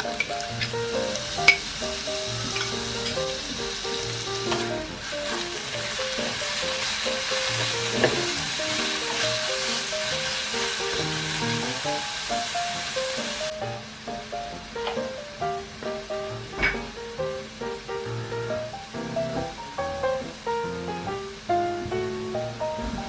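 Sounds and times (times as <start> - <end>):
background music: 0.0 - 23.0
food sizzling in hot oil: 0.0 - 23.0.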